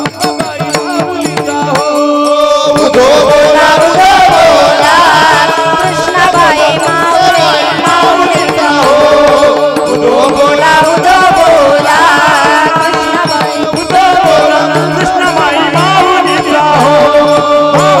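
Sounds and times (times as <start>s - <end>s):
drum: 0.0s - 18.0s
voices singing devotional song: 0.0s - 18.0s.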